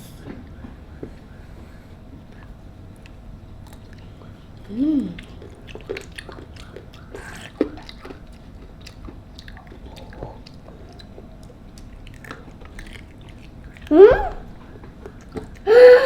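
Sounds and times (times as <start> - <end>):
children chewing food: 0.0 - 16.0
mouth clicks: 2.3 - 15.8.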